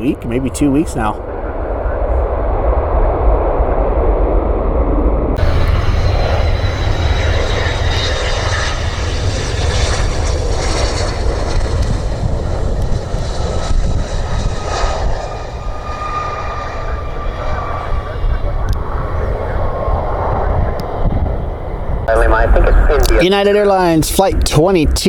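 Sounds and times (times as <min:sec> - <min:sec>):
jet airliner passing: 0:00.0 - 0:25.0.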